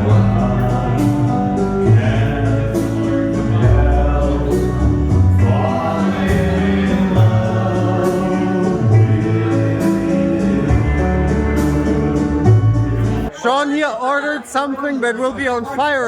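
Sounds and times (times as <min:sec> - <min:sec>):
music with choir-like vocals: 0:00.0 - 0:13.3.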